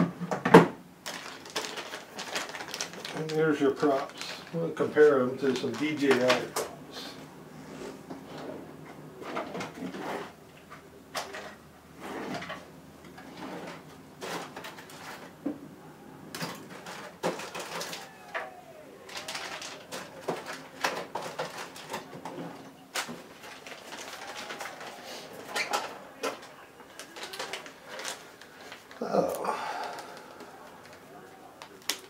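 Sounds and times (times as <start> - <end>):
plastic parts and packaging handled: 0.3 - 7.1, 9.2 - 15.6, 16.2 - 32.0.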